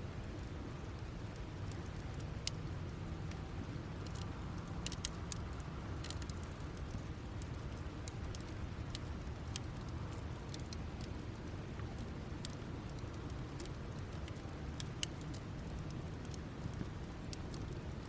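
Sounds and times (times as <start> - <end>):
low steady fire rumble: 0.0 - 18.0
campfire crackling and popping: 0.2 - 18.0.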